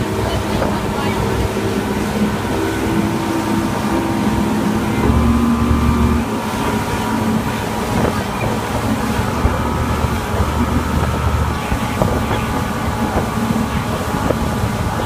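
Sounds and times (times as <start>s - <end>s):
outboard motor running: 0.0s - 15.0s
rushing water: 0.0s - 15.0s
wind: 0.0s - 15.0s.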